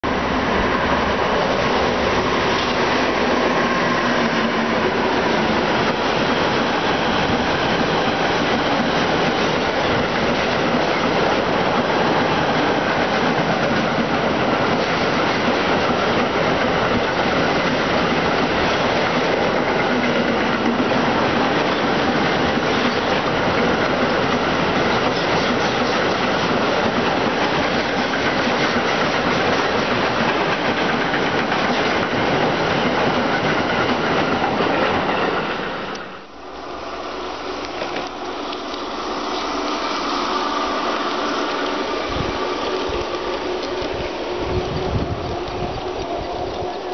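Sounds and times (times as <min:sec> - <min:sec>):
model train wheels rolling on track: 0:00.1 - 0:46.9.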